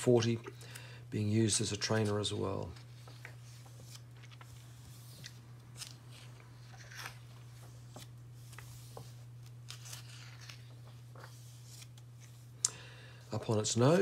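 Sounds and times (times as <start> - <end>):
book pages turning: 1.6 - 12.6, 13.4 - 14.0.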